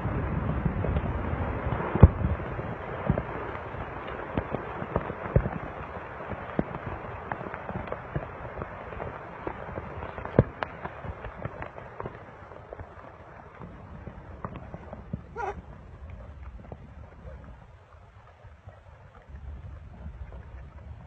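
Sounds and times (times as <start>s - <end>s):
volcano eruption crackles and pops: 0.0s - 21.0s.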